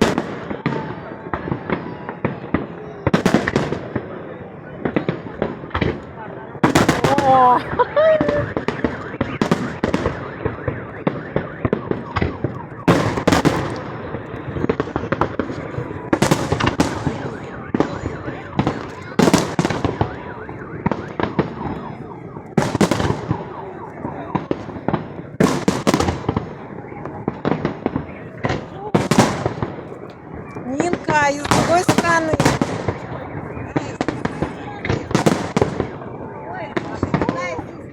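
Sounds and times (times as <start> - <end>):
firework pops and crackles: 0.0 - 4.2, 4.8 - 23.6, 24.3 - 37.9.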